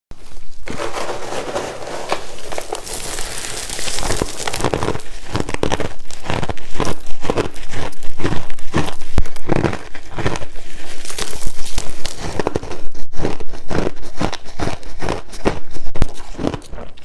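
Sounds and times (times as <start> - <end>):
crushed ice being chewed: 0.2 - 17.0.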